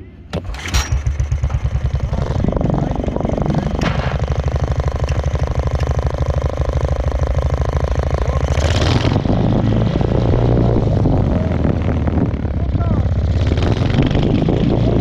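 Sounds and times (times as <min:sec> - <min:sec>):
small tractor engine pulsing: 0:00.3 - 0:15.0.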